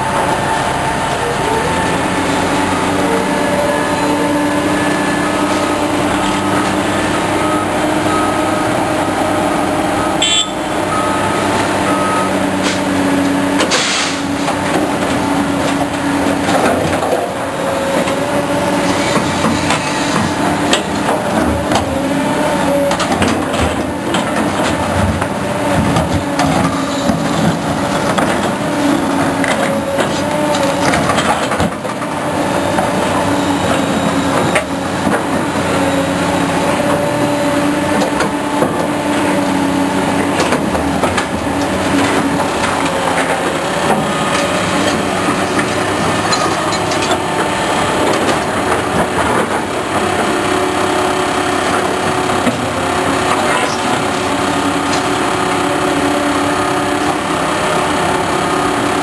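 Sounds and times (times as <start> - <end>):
heavy machinery engine drone: 0.0 - 59.0.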